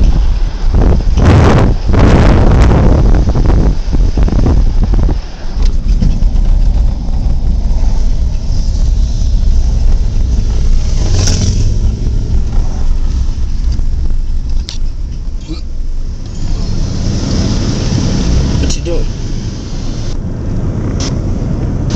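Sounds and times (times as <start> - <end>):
heavy diesel machinery rumbling: 0.0 - 21.9.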